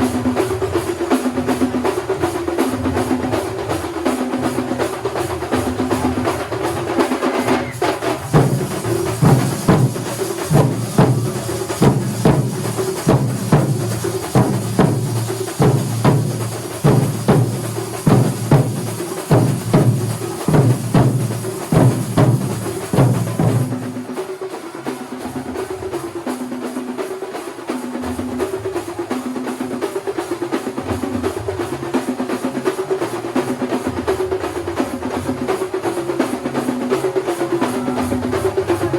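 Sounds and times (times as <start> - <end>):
drum ensemble playing: 0.0 - 38.9.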